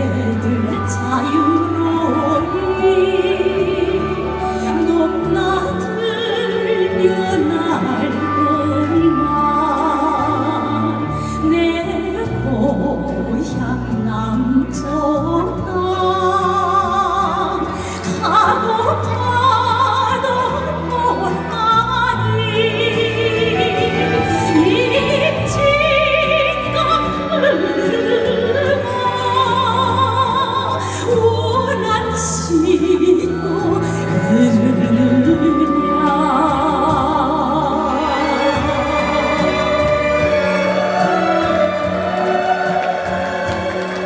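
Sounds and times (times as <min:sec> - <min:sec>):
recorded backing accompaniment: 0:00.0 - 0:44.0
woman singing operatically: 0:00.0 - 0:44.0.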